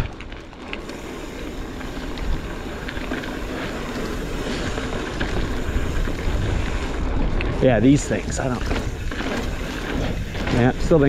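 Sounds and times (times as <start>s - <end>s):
bike ticks and rattles: 0.0s - 11.0s
tyres rumbling on dirt: 0.0s - 11.0s
wind rushing over microphone: 1.6s - 11.0s.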